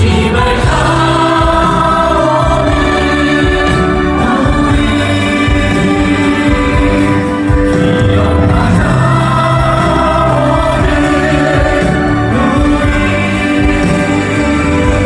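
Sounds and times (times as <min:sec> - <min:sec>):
group of voices singing: 0:00.0 - 0:15.0
instrumental backing music: 0:00.0 - 0:15.0.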